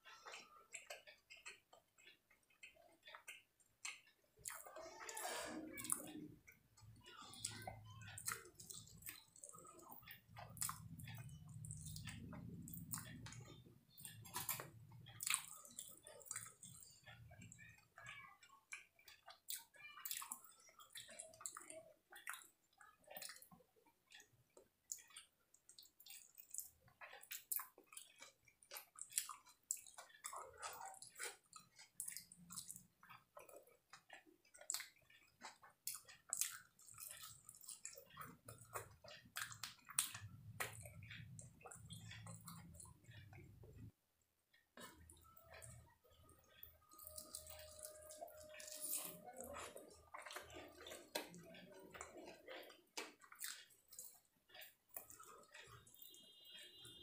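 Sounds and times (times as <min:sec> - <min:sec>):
person chewing with wet mouth sounds: 0:00.0 - 0:57.0.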